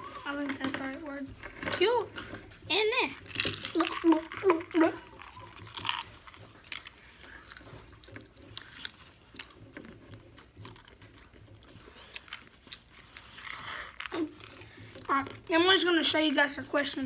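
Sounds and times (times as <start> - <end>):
person chewing peanuts: 1.4 - 15.7.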